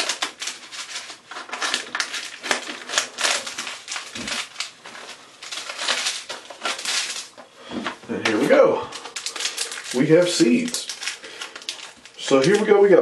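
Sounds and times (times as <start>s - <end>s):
foil packets crinkling: 0.0s - 13.0s.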